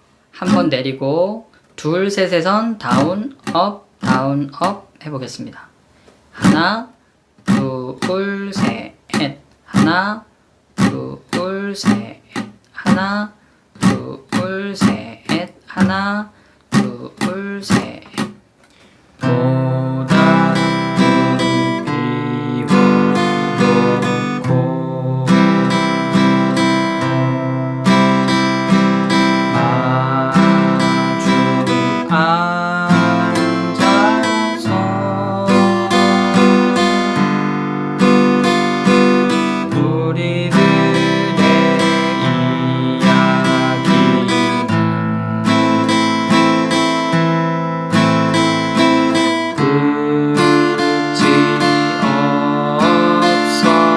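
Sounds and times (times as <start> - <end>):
acoustic guitar strumming: 0.0 - 0.9, 2.8 - 4.8, 6.4 - 6.8, 7.4 - 10.2, 10.8 - 13.2, 13.8 - 18.5, 19.2 - 53.9.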